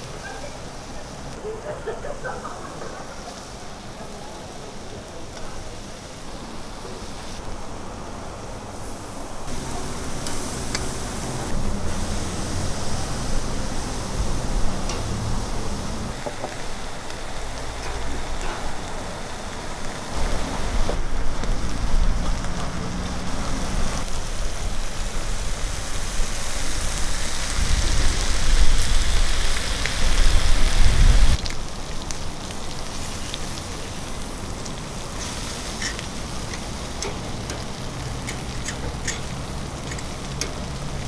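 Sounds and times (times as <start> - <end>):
ribs sizzling on a grill: 2.3 - 7.4, 8.2 - 41.0.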